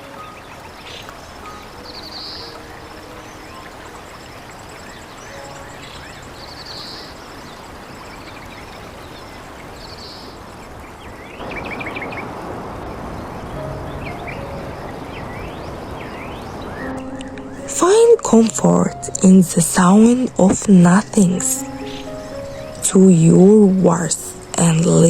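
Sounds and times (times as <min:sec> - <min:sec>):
birds chirping: 0:00.0 - 0:25.0
flowing water: 0:00.0 - 0:25.0.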